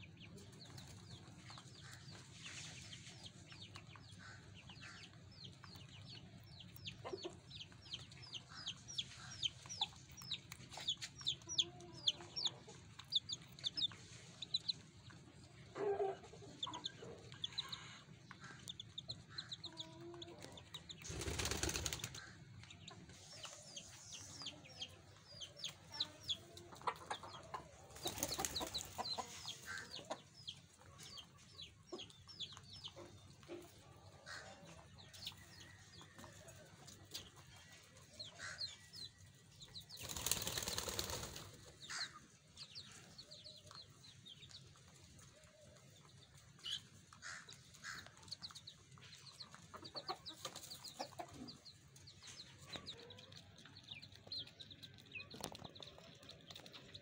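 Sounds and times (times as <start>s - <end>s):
small birds chirping: 0.0s - 57.0s
hens clucking: 0.3s - 38.9s, 40.0s - 57.0s.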